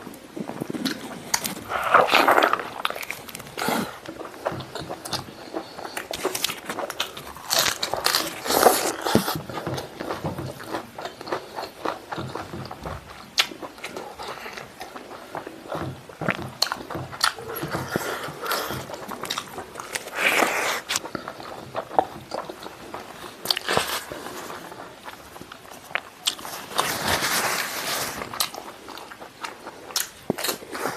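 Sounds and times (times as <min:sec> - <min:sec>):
man chewing with mouth open: 0:00.0 - 0:30.9
fingers working sticky food: 0:00.1 - 0:30.9.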